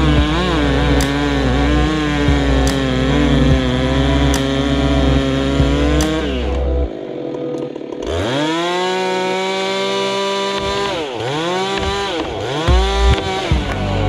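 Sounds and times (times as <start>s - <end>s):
chainsaw revving and idling: 0.0s - 14.0s.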